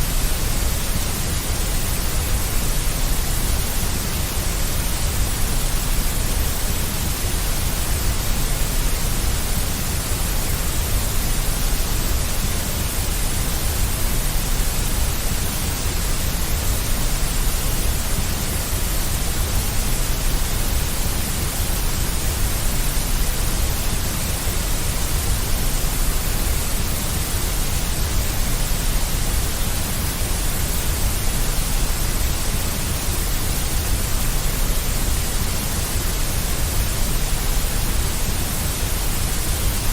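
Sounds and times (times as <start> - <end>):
synthetic white noise: 0.0 - 39.9.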